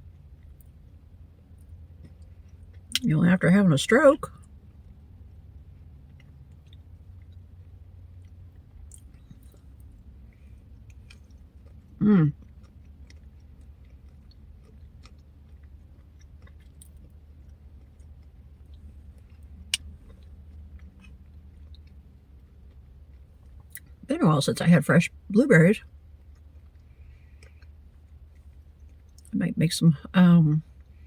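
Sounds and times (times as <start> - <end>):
quiet chewing: 0.0 - 3.0, 4.3 - 24.1, 25.8 - 29.4, 30.6 - 31.0.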